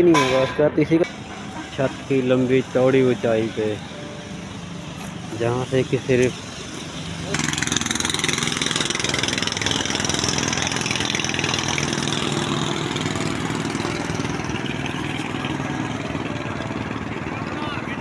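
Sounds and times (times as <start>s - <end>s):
passing vehicles: 0.0s - 18.0s
steady engine drone: 0.0s - 18.0s.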